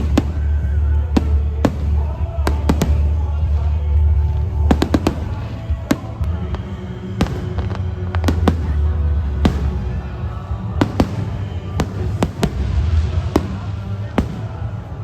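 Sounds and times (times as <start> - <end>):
fireworks cracking and popping: 0.0 - 15.0
low rumble: 0.0 - 15.0.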